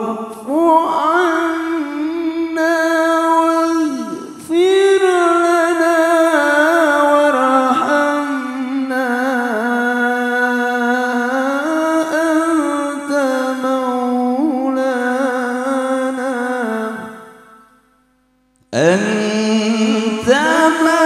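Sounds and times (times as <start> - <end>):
man reciting melodically into microphone: 0.0 - 17.8, 18.6 - 21.0.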